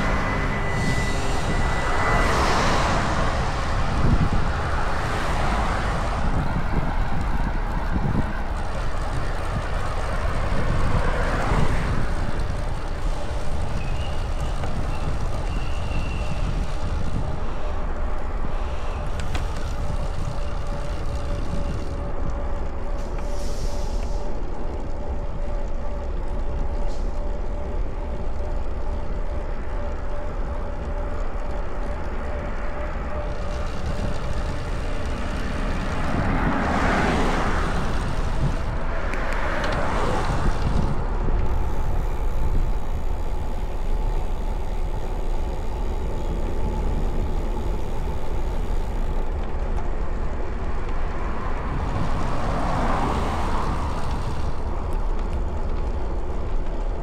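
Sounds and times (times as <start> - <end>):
cars passing: 0.0 - 23.3, 26.2 - 57.0
wind rumble on microphone: 0.0 - 57.0.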